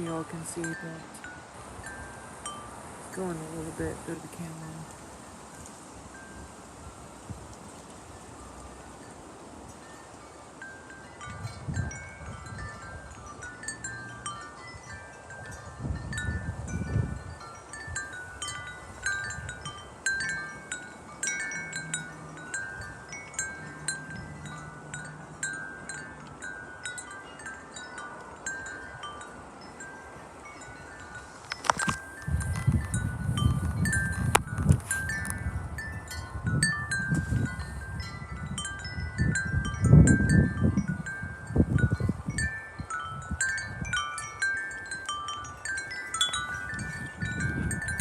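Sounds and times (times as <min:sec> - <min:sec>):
wind chimes ringing: 0:00.0 - 0:04.8, 0:08.1 - 0:48.0
wind rumble on microphone: 0:00.0 - 0:48.0.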